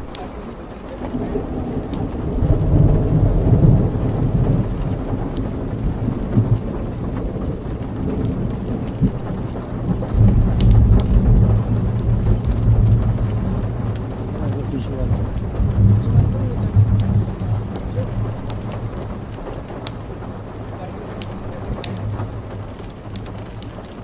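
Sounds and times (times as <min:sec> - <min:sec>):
rain pattering: 0:00.0 - 0:24.0
rolling thunder: 0:00.0 - 0:24.0.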